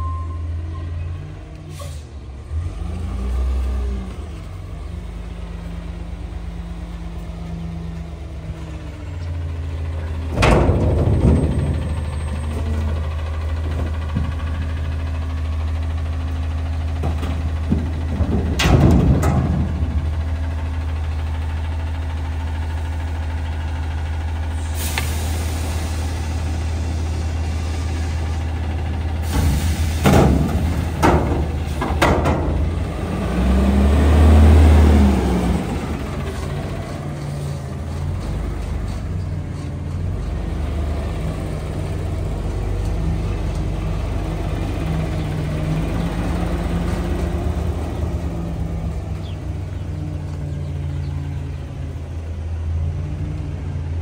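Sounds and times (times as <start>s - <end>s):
garbage truck engine idling: 4.3s - 54.0s.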